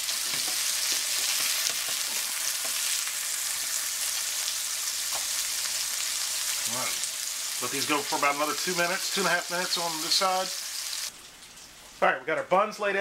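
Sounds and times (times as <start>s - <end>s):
patties sizzling in skillet: 0.0s - 12.8s.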